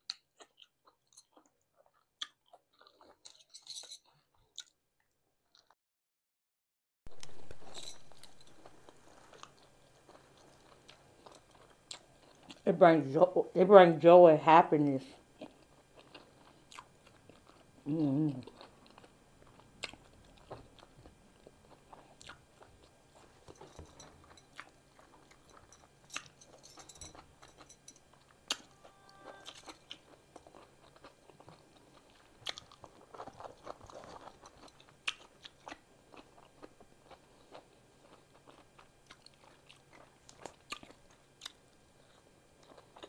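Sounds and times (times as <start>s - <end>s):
chewing and mouth smacks: 0.0s - 4.8s, 7.1s - 12.6s, 15.4s - 17.8s, 18.4s - 28.7s, 29.4s - 43.0s.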